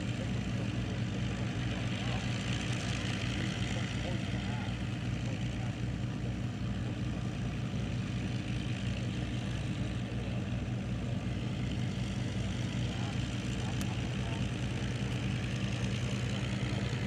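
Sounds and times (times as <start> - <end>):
piston aircraft engines idling: 0.0 - 17.0.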